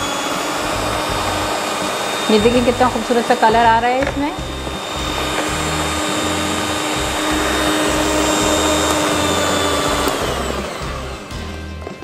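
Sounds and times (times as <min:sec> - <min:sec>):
electric beater whirring: 0:00.0 - 0:12.0.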